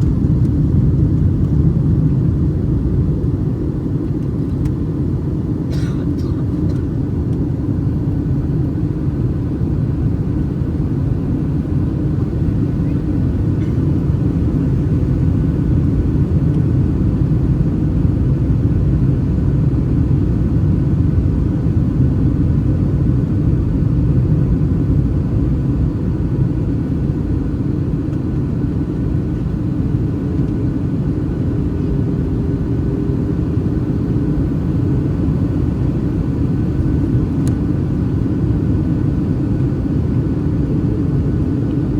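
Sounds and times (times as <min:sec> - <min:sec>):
airplane engine and airflow rumble: 0:00.0 - 0:41.9
faint steady hum of tones: 0:00.0 - 0:41.9.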